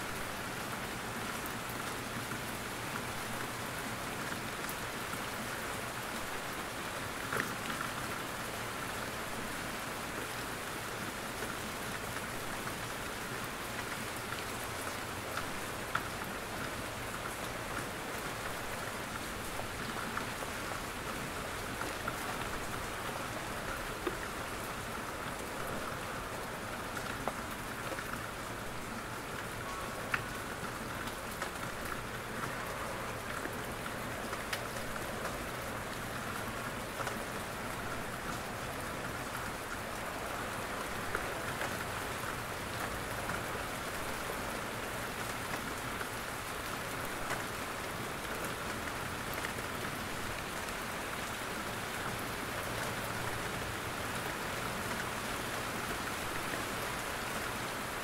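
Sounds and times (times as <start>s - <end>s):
steady rain in a forest: 0.0s - 58.0s.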